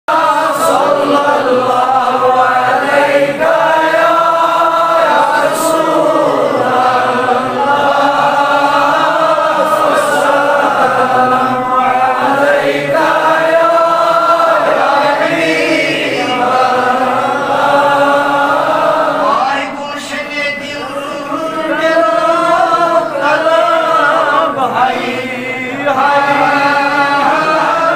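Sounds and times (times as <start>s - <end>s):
men chanting together: 0.1s - 19.8s, 20.5s - 27.9s.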